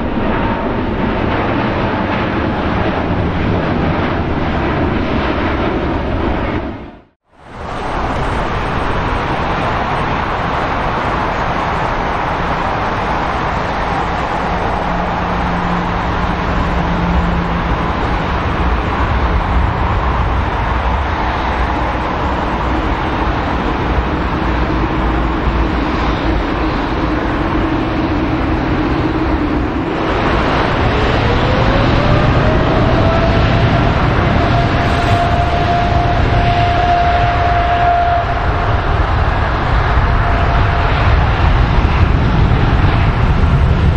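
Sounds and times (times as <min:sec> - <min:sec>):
jet engines roaring: 0:00.0 - 0:43.9
rising whine: 0:02.8 - 0:43.9.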